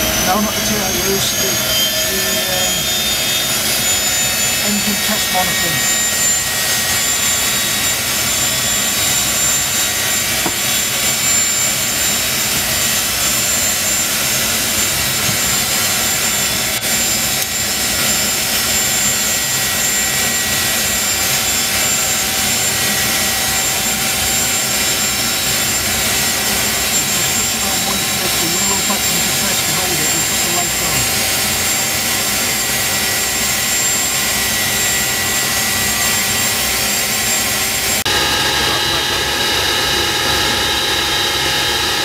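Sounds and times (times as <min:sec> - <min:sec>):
high-pitched whine: 0:00.0 - 0:42.0
jet engines running: 0:00.0 - 0:42.0.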